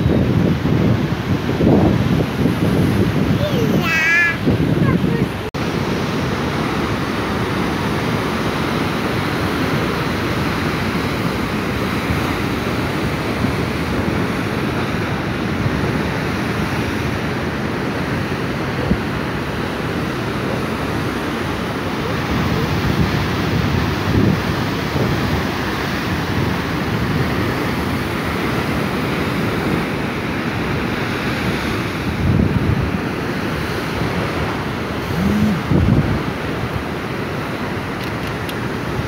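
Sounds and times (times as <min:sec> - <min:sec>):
wave breaking: 0:00.0 - 0:37.5
ocean surf: 0:00.0 - 0:39.0.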